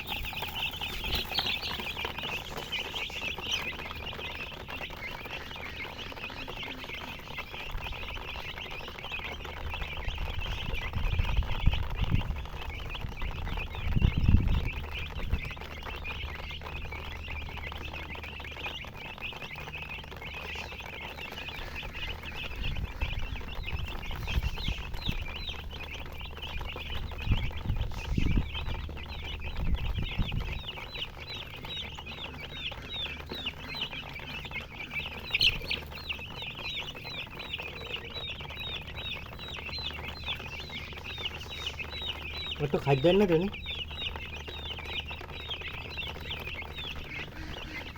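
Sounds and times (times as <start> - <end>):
baby chicks chirping: 0.0 - 47.9
low rumbles: 0.0 - 47.9.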